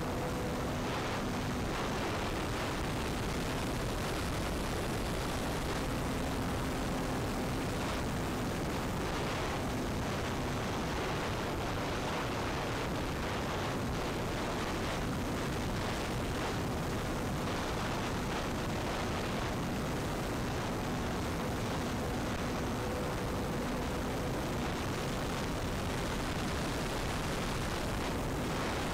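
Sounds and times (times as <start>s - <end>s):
faint hum of motor and propeller: 0.0s - 28.9s
wind rushing over camera: 0.0s - 28.9s.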